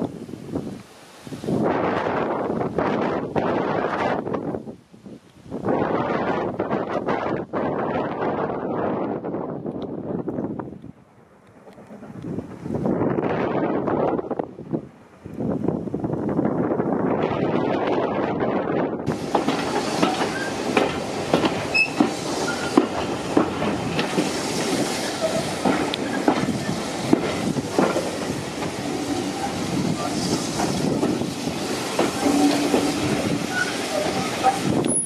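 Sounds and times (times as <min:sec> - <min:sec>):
train wheels rumbling on rail: 0:00.0 - 0:35.0
wind noise: 0:00.0 - 0:35.0.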